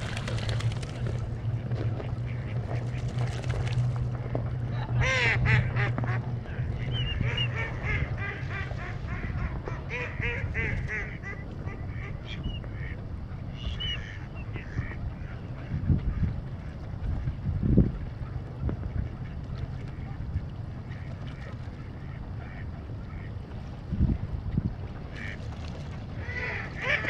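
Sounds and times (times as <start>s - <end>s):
ducks quacking: 0.0s - 17.5s, 18.1s - 23.7s, 25.0s - 27.0s
low steady hum: 0.0s - 27.0s.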